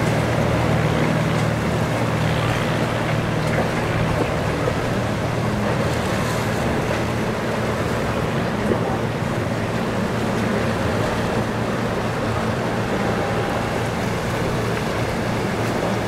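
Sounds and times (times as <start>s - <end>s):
powerboat engines droning: 0.0s - 16.0s
surf washing: 0.0s - 16.0s
wind: 0.0s - 16.0s.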